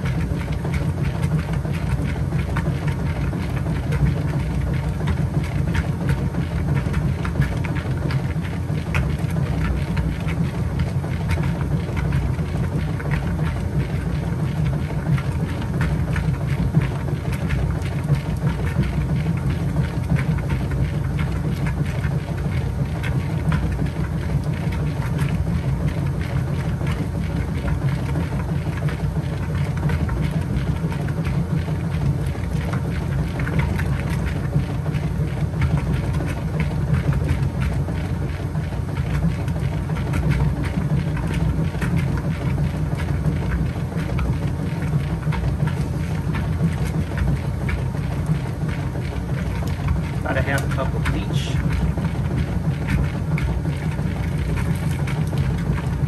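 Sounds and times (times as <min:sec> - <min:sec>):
washing machine agitating: 0:00.0 - 0:56.0.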